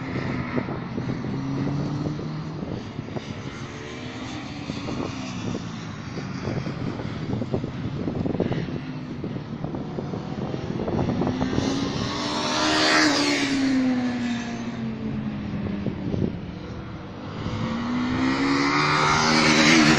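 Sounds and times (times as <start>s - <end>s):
motorcycle engine passing: 0.0s - 19.9s.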